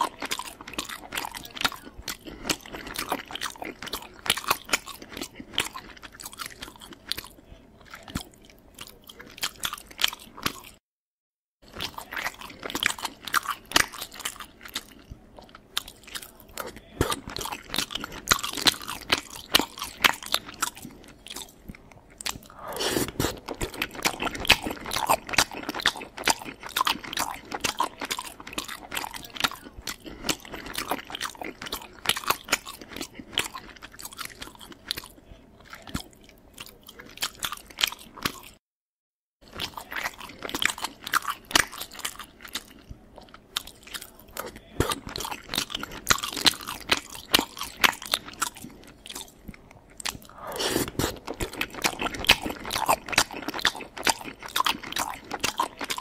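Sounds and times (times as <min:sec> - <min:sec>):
wet chewing and lip-smacking: 0:00.0 - 0:10.8, 0:11.6 - 0:38.6, 0:39.4 - 0:56.0.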